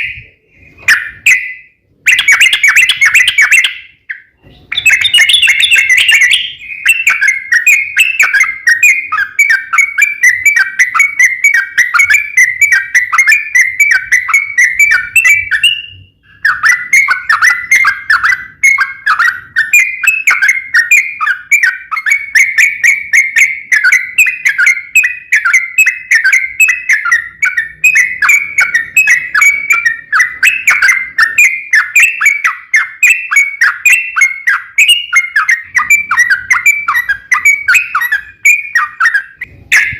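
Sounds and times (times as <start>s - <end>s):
bird singing rapid chattering song: 0.0s - 39.9s.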